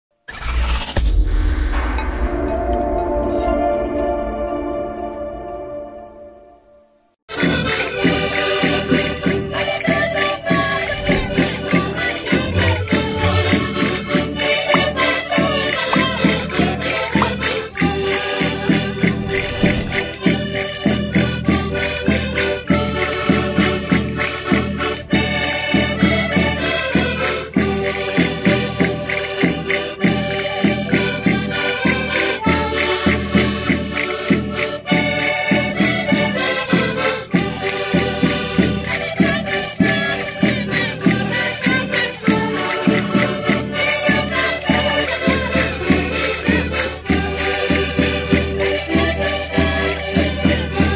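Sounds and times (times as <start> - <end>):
button accordions playing folk tune: 7.3 - 50.9.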